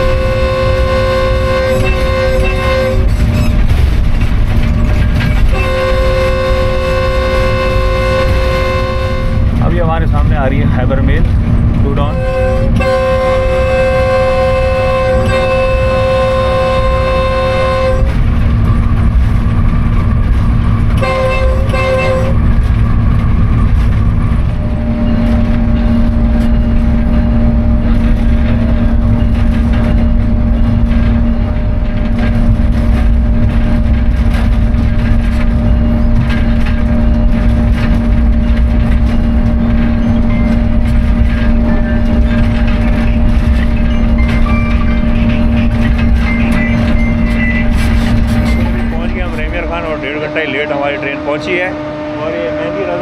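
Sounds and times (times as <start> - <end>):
locomotive horn: 0.0 - 10.0, 12.0 - 19.1, 19.7 - 53.0
locomotive rumbling on track: 0.0 - 53.0.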